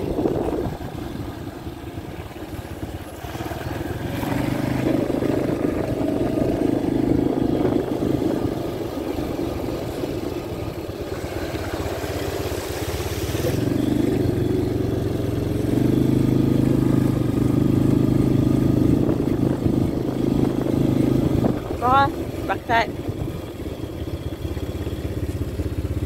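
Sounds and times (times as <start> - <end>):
small atv engine running: 0.0 - 26.0.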